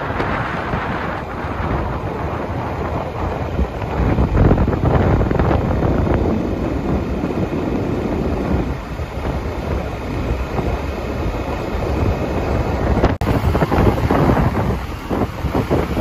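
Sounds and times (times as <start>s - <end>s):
low road rumble: 0.0s - 16.0s
wind buffeting microphone: 0.0s - 16.0s.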